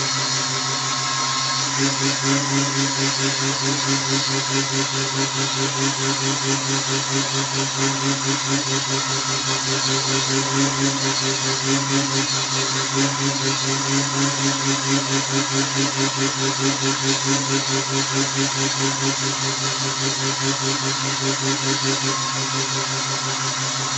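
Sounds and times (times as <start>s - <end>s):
chisel scraping spinning wood: 0.0s - 23.9s
lathe motor humming: 0.0s - 23.9s.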